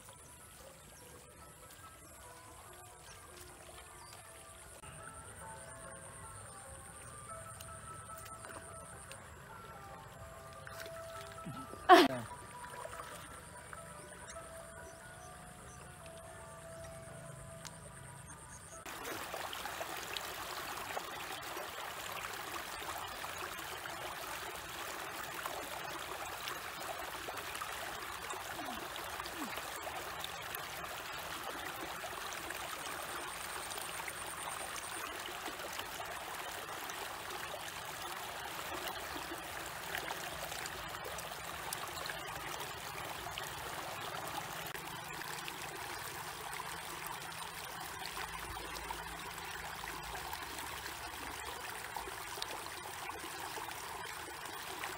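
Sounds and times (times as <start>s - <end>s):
stream water trickling over drop: 0.0s - 5.8s, 6.4s - 54.9s.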